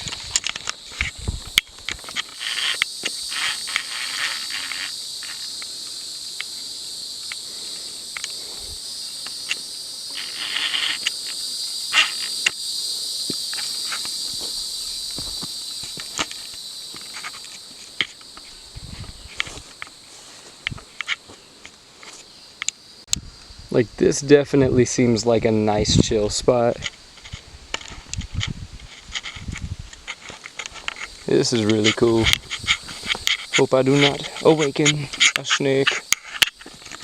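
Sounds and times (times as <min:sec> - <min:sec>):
footsteps on rocky trail: 0:00.0 - 0:22.3, 0:27.0 - 0:37.0
cicadas buzzing: 0:00.0 - 0:37.0.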